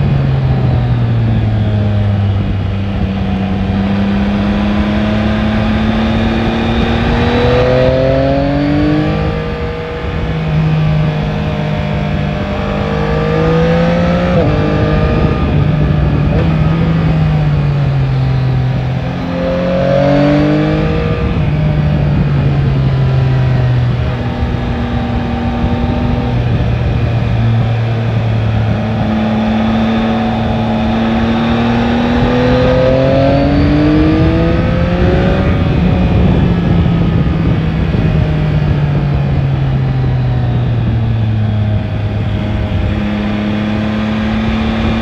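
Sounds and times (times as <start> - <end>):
motorcycle engine revving: 0.0 - 45.0
wind and road noise: 0.0 - 45.0.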